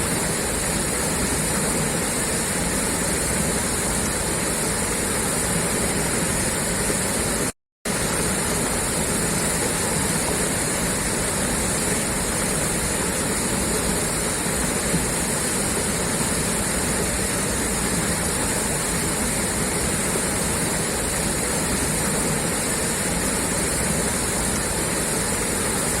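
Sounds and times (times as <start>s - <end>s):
water gushing from pipe: 0.0s - 26.0s.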